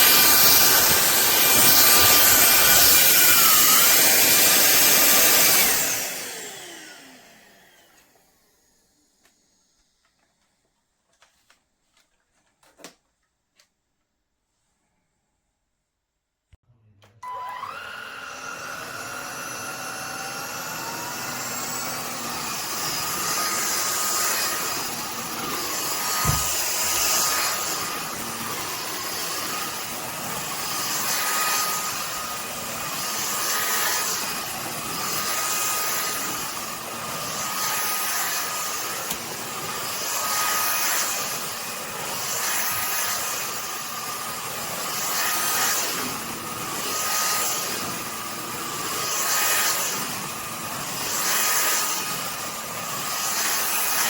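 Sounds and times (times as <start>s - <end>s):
stick vacuum motor whine: 0.0s - 10.2s, 17.0s - 54.0s.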